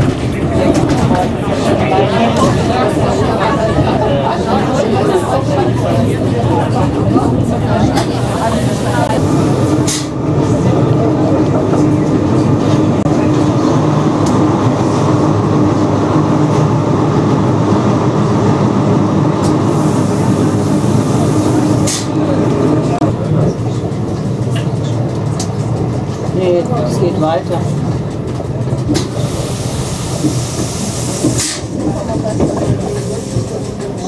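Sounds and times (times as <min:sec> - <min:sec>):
railcar running on track: 0:00.0 - 0:34.0.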